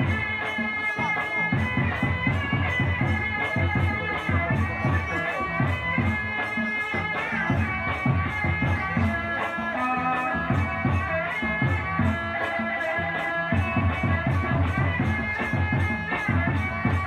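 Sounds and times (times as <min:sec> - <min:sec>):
quick hand-drum beat: 0:00.0 - 0:17.0.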